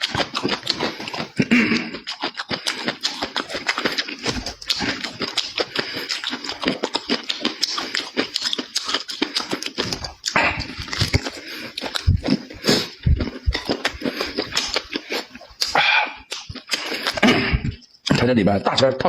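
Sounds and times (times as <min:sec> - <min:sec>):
person chewing food: 0:00.0 - 0:18.2.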